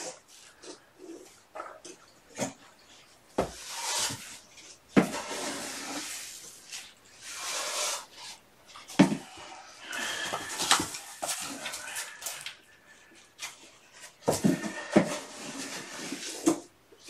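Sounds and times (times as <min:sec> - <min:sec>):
rustling in bucket: 0:00.0 - 0:17.0.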